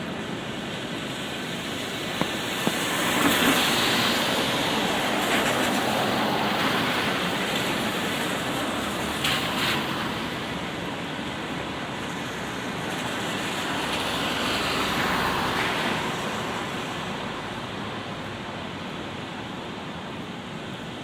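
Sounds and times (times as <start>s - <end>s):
light rain on an umbrella: 0.0s - 21.0s
tyres hissing on wet road: 0.0s - 21.0s.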